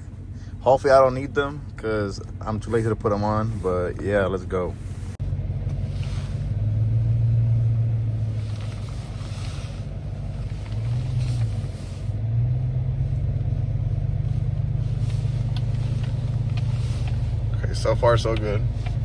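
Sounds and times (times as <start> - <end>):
truck engine and road drone: 0.0 - 19.0.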